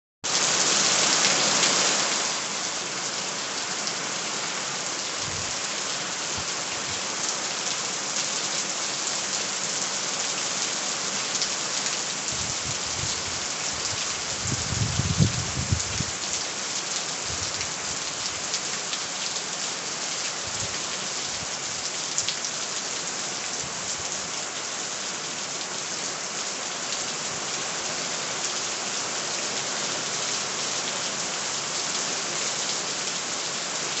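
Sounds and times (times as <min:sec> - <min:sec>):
steady rain falling: 0:00.2 - 0:34.0.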